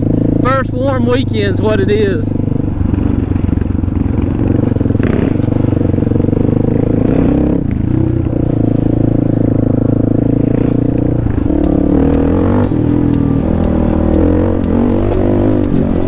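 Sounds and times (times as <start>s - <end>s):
motorcycle engine running: 2.3s - 16.0s.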